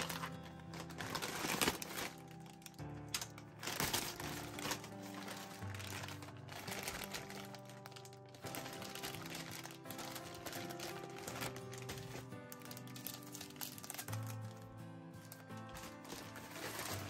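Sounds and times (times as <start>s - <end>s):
background music: 0.0s - 17.0s
plastic mailer bag crinkling: 0.0s - 17.0s.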